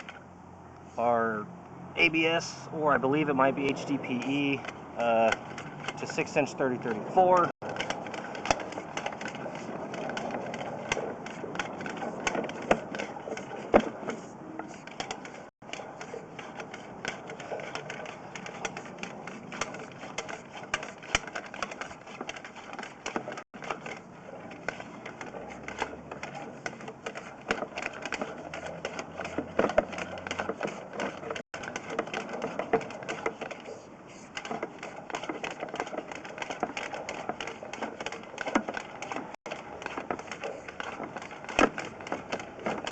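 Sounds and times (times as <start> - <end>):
cable reel clicking and rattling: 0.0 - 0.2, 3.1 - 42.9.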